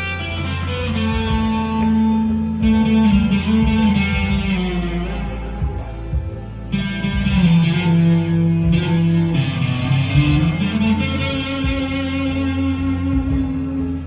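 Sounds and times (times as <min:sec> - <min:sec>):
backing track: 0:00.0 - 0:14.0
overdriven electric guitar lead: 0:00.0 - 0:14.0.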